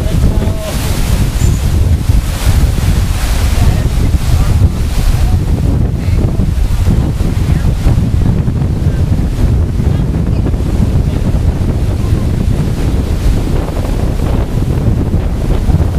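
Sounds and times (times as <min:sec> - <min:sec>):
wind blasting the microphone: 0:00.0 - 0:15.9.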